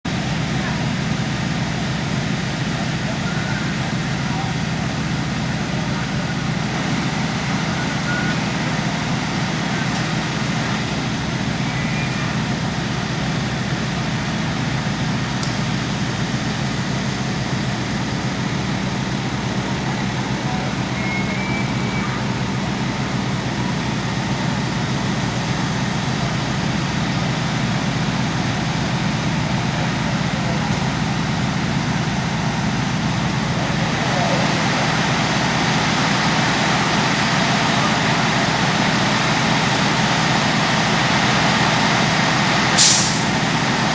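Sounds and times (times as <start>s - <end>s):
large vehicle engine humming: 0.0s - 43.9s.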